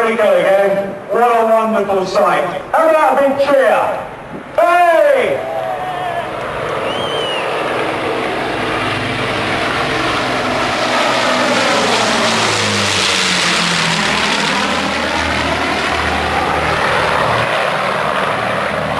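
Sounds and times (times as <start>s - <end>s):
propeller aircraft engines droning: 0.0s - 18.9s.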